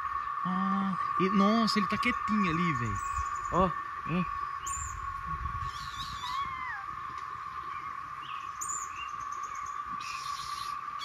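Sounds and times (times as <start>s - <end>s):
high-pitched drone: 0.0s - 9.0s
small birds chirping: 0.5s - 5.0s, 5.6s - 11.0s.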